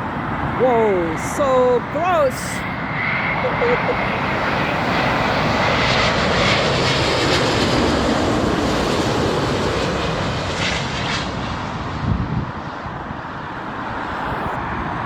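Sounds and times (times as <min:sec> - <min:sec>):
jet airliner engine rush: 0:00.0 - 0:15.0.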